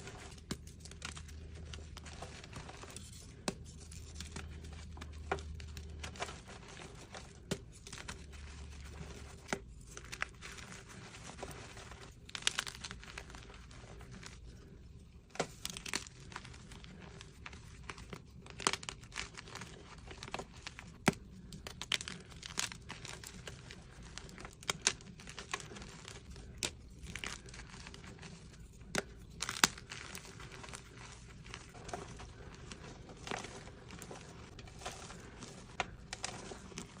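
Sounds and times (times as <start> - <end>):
chalk crunching and crackling: 0.0 - 37.0.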